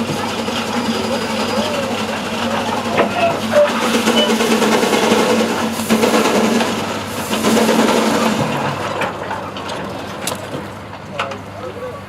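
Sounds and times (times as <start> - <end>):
steam traction engine running: 0.0 - 12.0.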